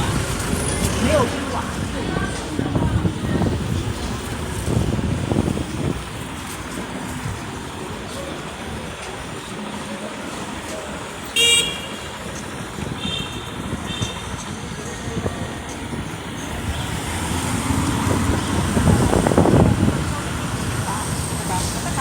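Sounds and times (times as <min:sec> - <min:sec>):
street traffic noise: 0:00.0 - 0:22.0.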